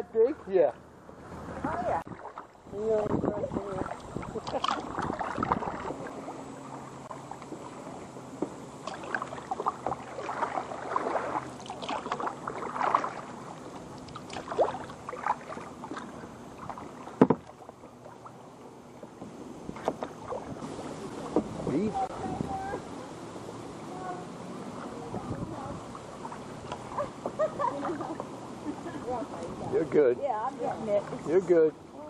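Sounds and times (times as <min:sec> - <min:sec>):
paddle splashing in water: 0:00.3 - 0:31.4.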